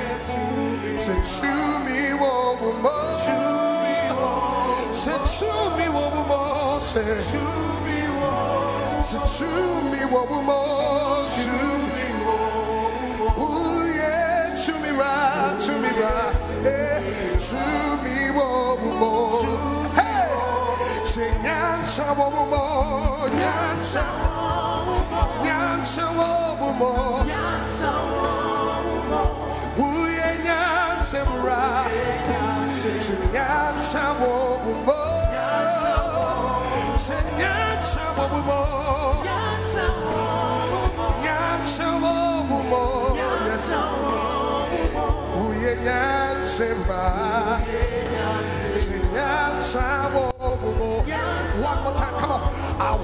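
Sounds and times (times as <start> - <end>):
gospel band playing: 0.0 - 53.0
voices singing with vibrato: 0.0 - 53.0.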